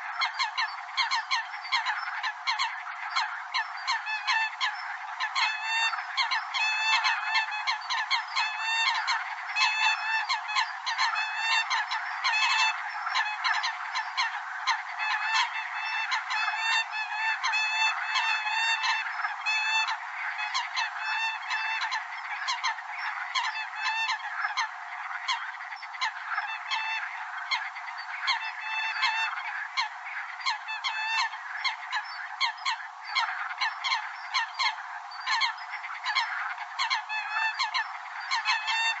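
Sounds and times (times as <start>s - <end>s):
coots honking calls: 0.0s - 39.0s.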